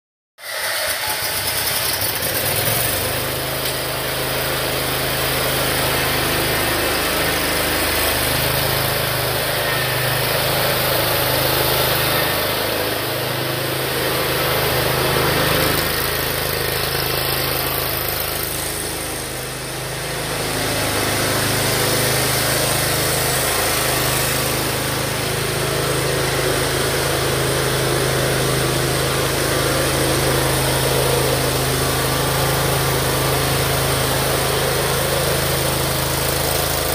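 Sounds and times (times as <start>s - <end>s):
mower engine running: 0.4s - 36.9s.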